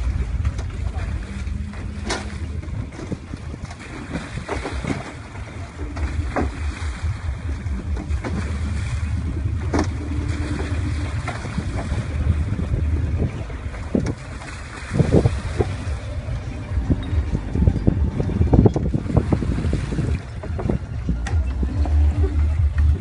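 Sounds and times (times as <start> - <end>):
water sloshing from wading: 0.0 - 23.0
water splashes: 0.0 - 23.0
wind noise on microphone: 0.0 - 23.0.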